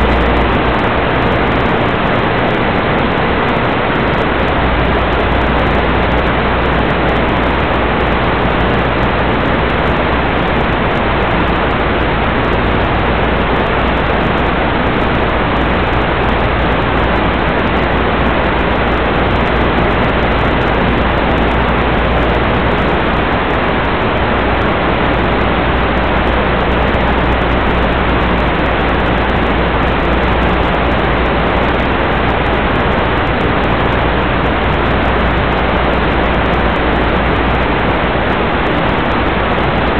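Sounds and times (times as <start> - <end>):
loud static hiss: 0.0 - 39.9
low hum: 0.0 - 39.9.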